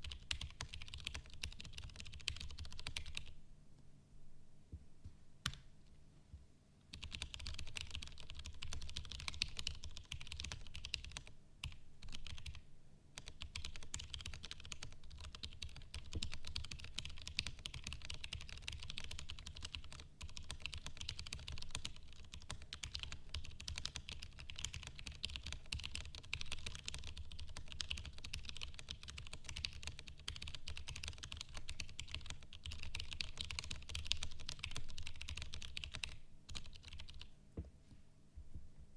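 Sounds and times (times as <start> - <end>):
mechanical keyboard typing: 0.0 - 3.3, 6.9 - 12.6, 13.2 - 37.3.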